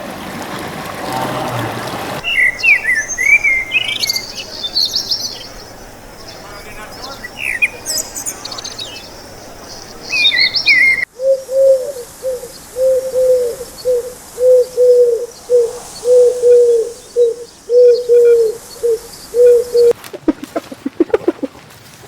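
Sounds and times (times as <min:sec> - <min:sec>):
high bird chirps: 0:02.2 - 0:11.1, 0:12.5 - 0:21.5
pigeon cooing: 0:02.2 - 0:21.6.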